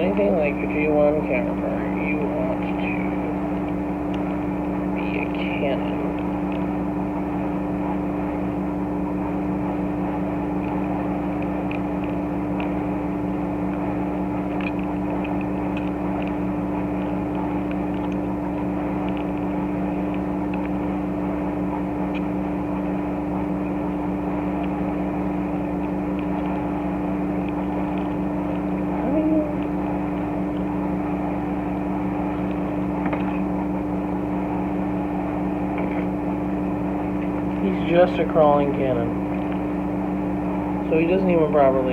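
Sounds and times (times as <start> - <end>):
droning mechanical hum: 0.0 - 41.9.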